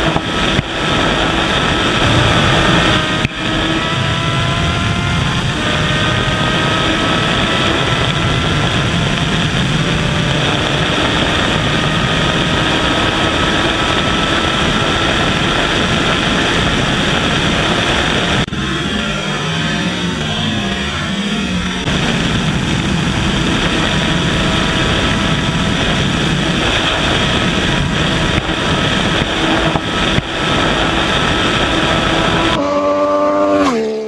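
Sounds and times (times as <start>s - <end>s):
motorcycle engine at full throttle: 0.0s - 34.0s
wind rush on microphone: 0.0s - 34.0s.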